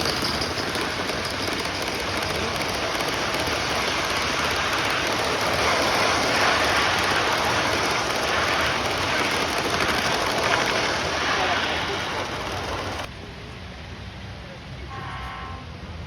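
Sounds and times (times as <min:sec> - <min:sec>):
model trains rolling on tracks: 0:00.0 - 0:16.0.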